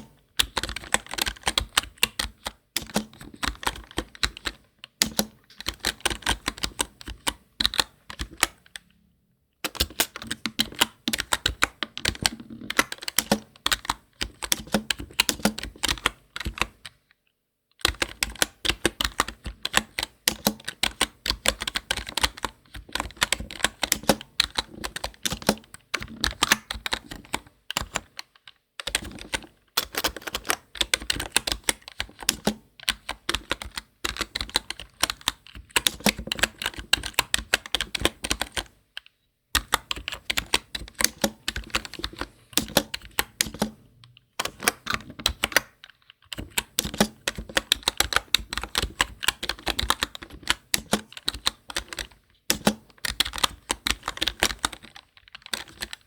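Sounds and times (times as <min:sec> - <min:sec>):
fast keyboard typing: 0:00.0 - 0:08.9, 0:09.6 - 0:17.0, 0:17.8 - 0:39.0, 0:39.6 - 0:56.0.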